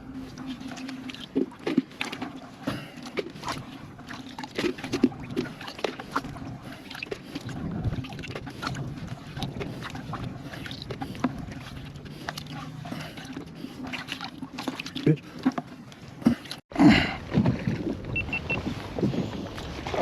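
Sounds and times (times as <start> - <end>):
paddle swishing through water: 0.0 - 16.6, 17.2 - 20.0.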